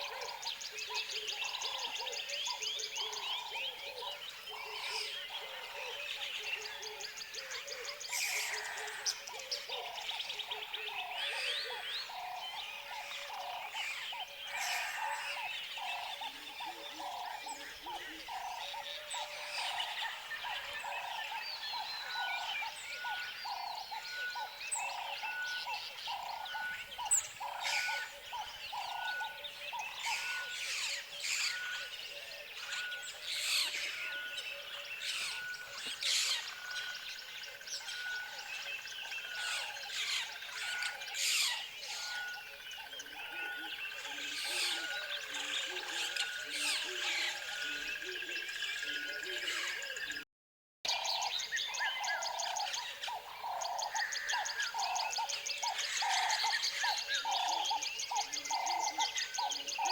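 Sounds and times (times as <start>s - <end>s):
birds chirping and calling: 0.0s - 50.2s, 50.9s - 59.9s.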